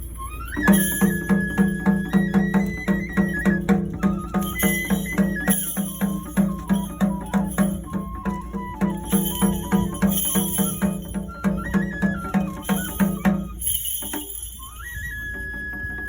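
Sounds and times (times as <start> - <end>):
high flute melody: 0.0 - 16.0
steady drum beat: 0.6 - 14.5.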